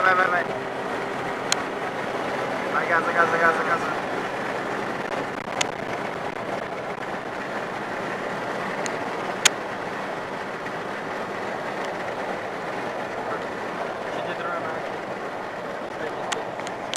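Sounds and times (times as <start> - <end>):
road and wind noise in car: 0.0 - 16.9.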